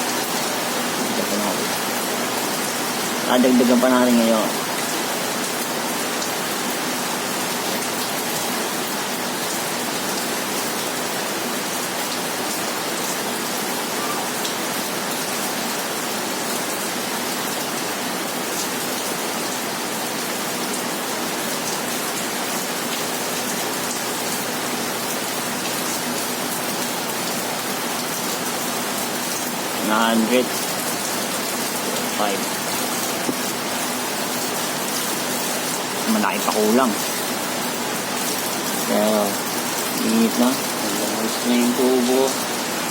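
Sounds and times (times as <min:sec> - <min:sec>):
air conditioner unit hissing rush: 0:00.0 - 0:42.9.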